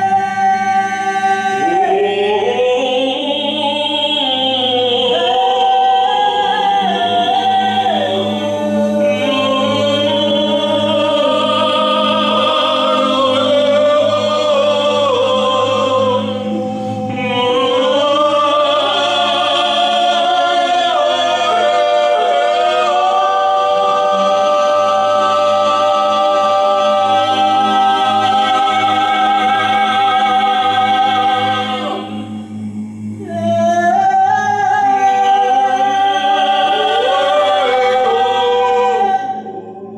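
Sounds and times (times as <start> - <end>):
a cappella harmony singing: 0.0 - 39.9
steady low vocal drone: 0.0 - 39.9.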